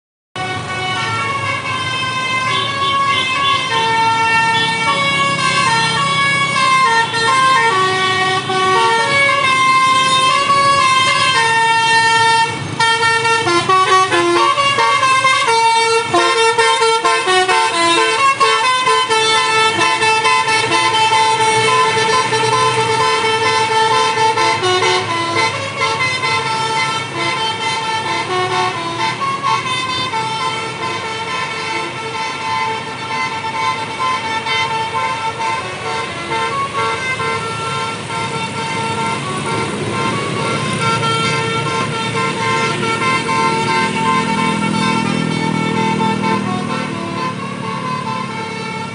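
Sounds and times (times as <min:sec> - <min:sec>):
faint vehicle rumble: 0:00.4 - 0:48.9
musical air horn melody: 0:00.4 - 0:48.9.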